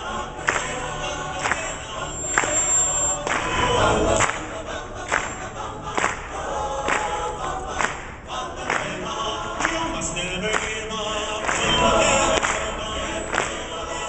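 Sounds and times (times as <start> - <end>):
men's chorus singing: 0.0 - 14.0
crowd clapping in time: 0.4 - 3.6, 4.2 - 14.0.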